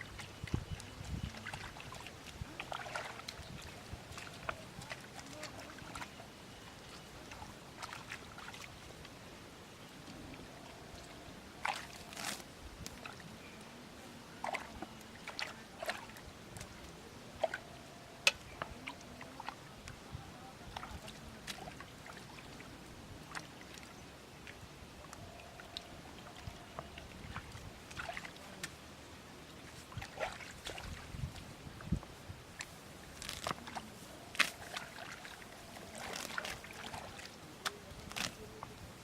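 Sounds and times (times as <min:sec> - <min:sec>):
water sloshing and trickling: 0:00.0 - 0:13.6, 0:14.3 - 0:39.0.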